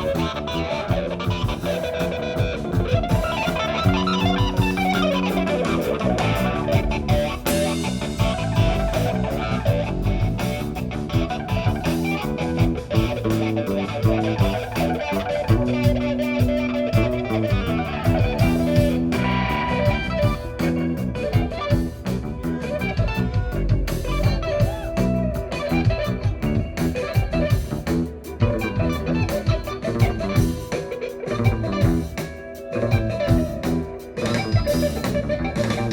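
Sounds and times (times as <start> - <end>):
bass guitar: 0.0 - 35.9
drum kit: 0.0 - 35.9
electric guitar: 0.0 - 35.9.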